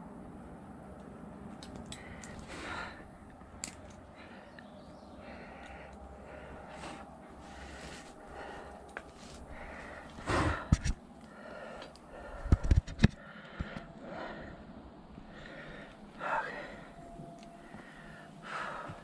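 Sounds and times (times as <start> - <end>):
man breathing hard: 1.9 - 19.0.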